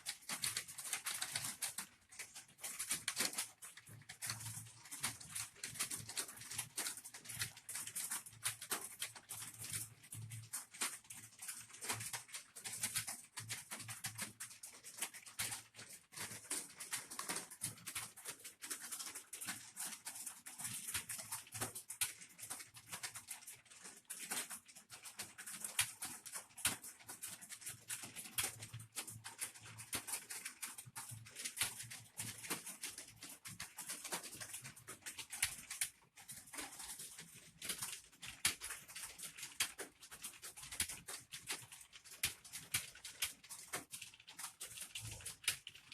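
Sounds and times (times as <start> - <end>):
fast keyboard typing: 0.0 - 45.9.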